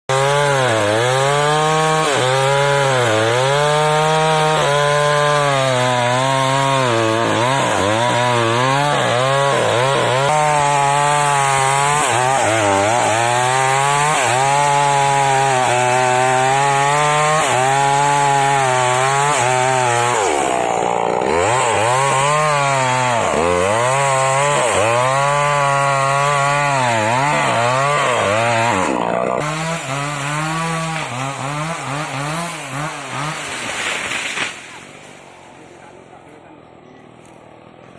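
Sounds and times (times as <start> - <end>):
chainsaw cutting wood: 0.1 - 35.5.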